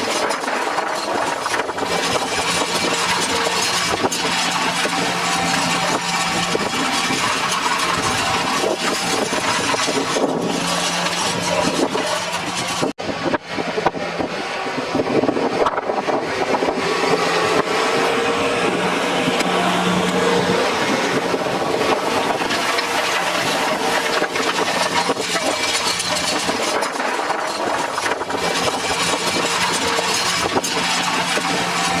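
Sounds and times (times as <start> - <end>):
tractor engine droning: 0.0 - 32.0.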